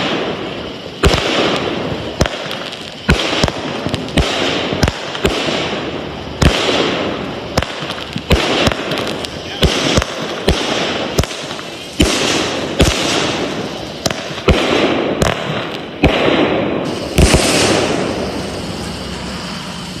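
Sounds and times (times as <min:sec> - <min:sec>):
crackling fireworks shells: 0:00.0 - 0:20.0
fireworks shots: 0:00.0 - 0:20.0.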